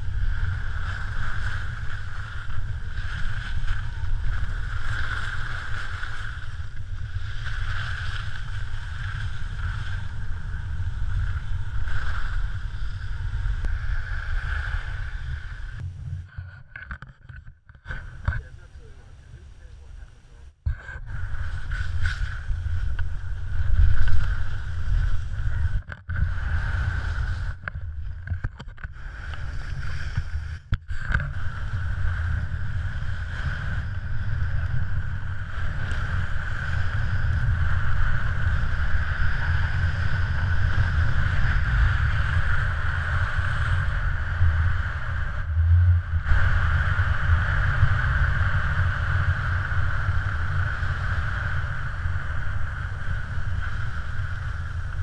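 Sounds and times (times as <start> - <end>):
skis sliding on snow: 0.0 - 15.8, 21.2 - 28.1, 28.9 - 45.4, 46.2 - 55.0
wind buffeting microphone: 0.0 - 16.8, 17.6 - 55.0.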